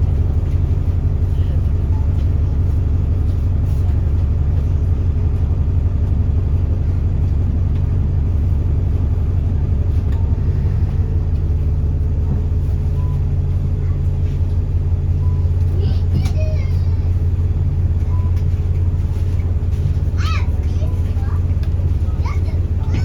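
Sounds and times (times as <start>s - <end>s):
bus diesel engine drone: 0.0s - 23.0s.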